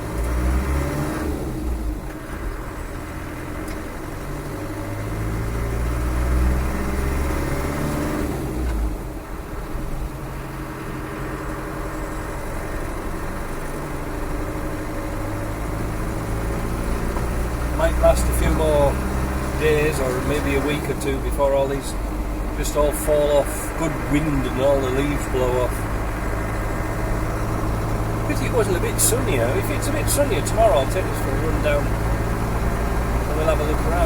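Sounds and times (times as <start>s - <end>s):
diesel engine driving: 0.0s - 34.0s.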